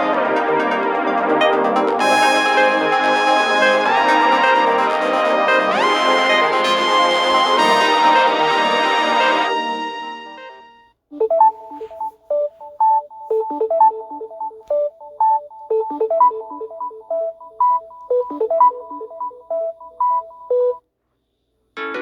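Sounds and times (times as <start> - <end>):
phone ringtone melody: 0.0 - 20.8.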